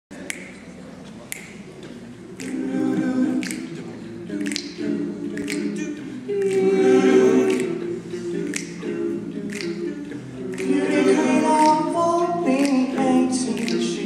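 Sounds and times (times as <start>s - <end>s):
finger snaps keeping time: 0.1s - 14.0s
male a cappella group singing: 2.2s - 14.0s.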